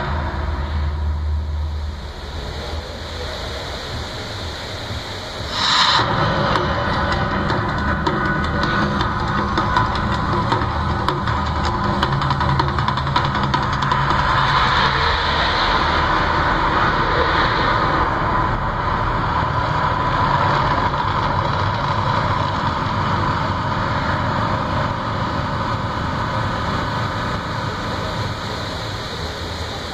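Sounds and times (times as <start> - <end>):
loud steady rumble: 0.0 - 29.9.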